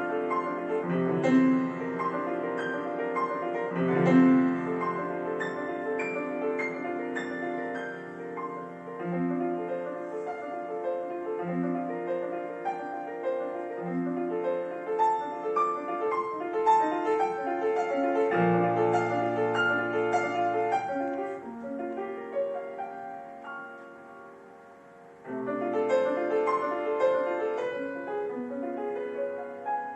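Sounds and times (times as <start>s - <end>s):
solo piano classical piece: 0.0s - 29.9s.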